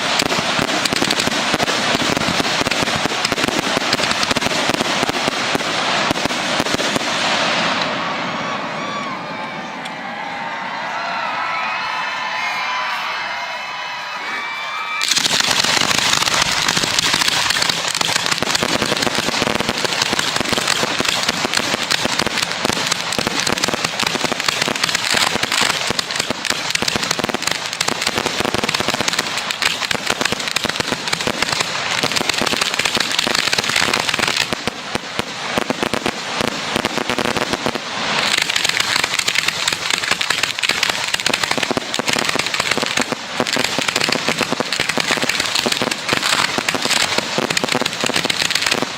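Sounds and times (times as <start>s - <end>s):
fireworks crackling and bursting: 0.0s - 9.0s, 14.4s - 48.9s.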